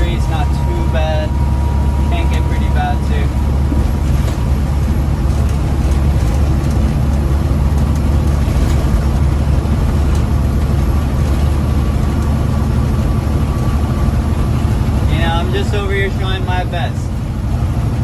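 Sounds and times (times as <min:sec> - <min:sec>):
road noise: 0:00.0 - 0:18.0
truck diesel engine droning: 0:00.0 - 0:18.0.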